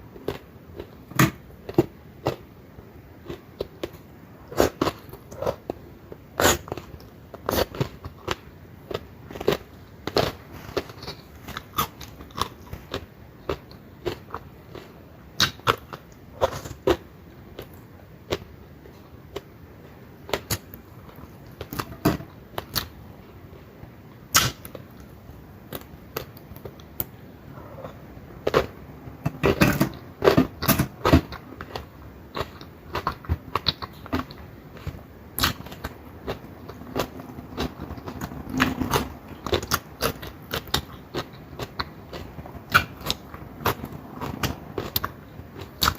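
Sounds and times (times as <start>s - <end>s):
person crunching and chewing: 3.2s - 18.6s, 24.3s - 45.9s.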